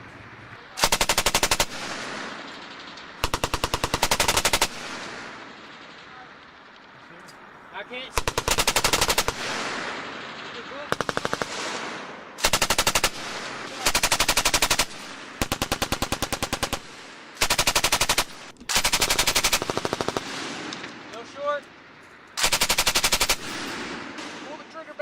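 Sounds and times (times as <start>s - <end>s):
machine gun automatic fire: 0.8s - 6.8s, 8.1s - 20.8s, 22.4s - 24.7s
gunfire echo: 0.8s - 7.0s, 8.0s - 25.0s.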